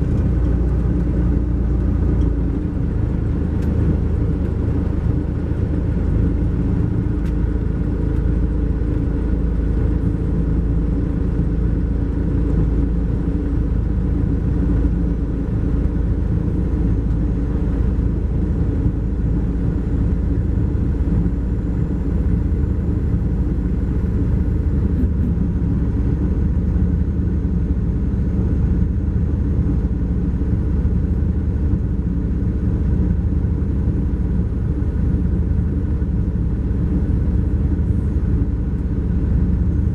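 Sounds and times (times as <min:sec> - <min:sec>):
diesel coach engine running: 0:00.0 - 0:39.9
road noise: 0:00.0 - 0:39.9.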